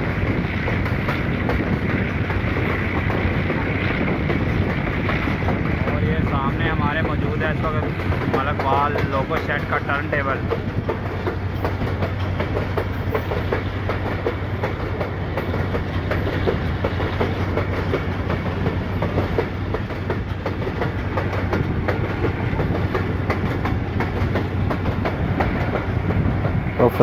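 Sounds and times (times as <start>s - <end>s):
train wheels rumbling on rails: 0.0s - 27.0s
wheels clacking over rail joints: 0.0s - 27.0s.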